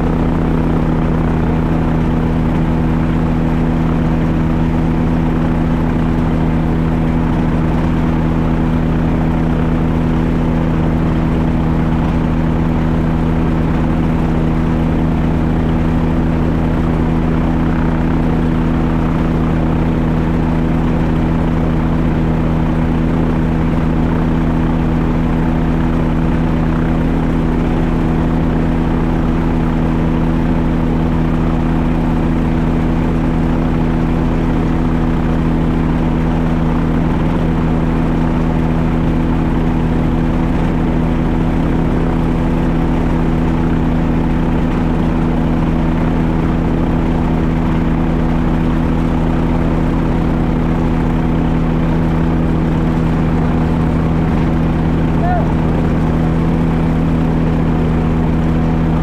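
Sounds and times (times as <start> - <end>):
small aircraft engine idling: 0.0 - 59.0.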